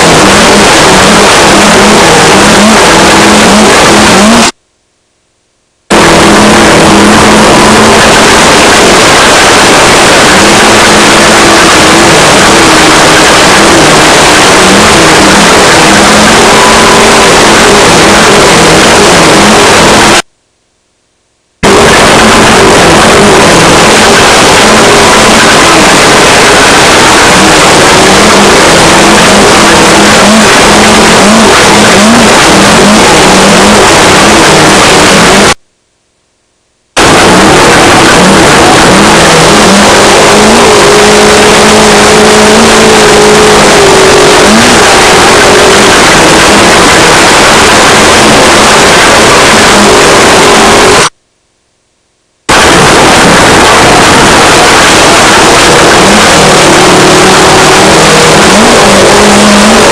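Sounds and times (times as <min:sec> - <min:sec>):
race car engine under load: 0:00.0 - 0:04.6, 0:05.8 - 0:20.3, 0:21.6 - 0:35.6, 0:36.9 - 0:51.1, 0:52.4 - 0:59.9
loud rush of noise: 0:00.0 - 0:04.8, 0:05.7 - 0:20.5, 0:21.3 - 0:35.8, 0:36.8 - 0:51.2, 0:52.3 - 0:59.9.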